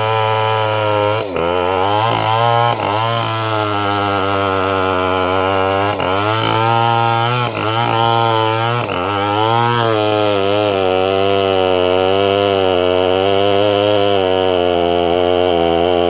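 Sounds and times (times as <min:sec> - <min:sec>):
bandsaw engine cutting wood: 0:00.0 - 0:16.0.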